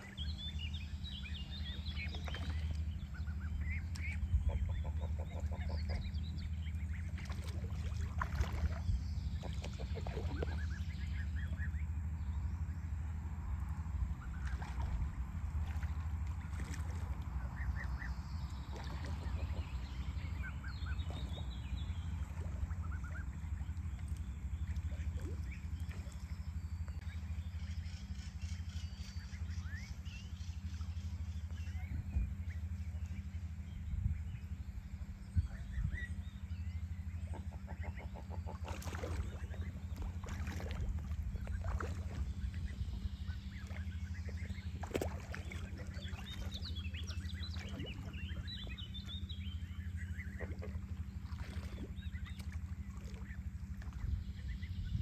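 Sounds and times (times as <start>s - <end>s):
ducks calling: 0.0s - 12.0s, 14.1s - 30.0s, 36.8s - 55.0s
steady low rumble: 0.0s - 55.0s.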